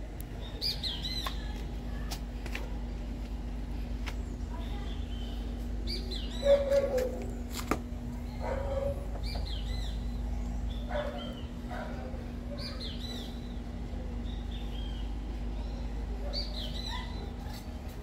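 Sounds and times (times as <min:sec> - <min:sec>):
steady low hum: 0:00.0 - 0:18.0
birds chirping: 0:00.2 - 0:18.0.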